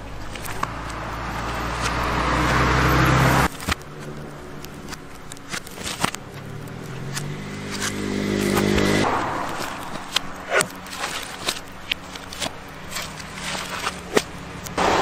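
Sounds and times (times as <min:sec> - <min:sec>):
fire crackling: 0:00.0 - 0:15.0
vehicle engine running: 0:00.0 - 0:15.0.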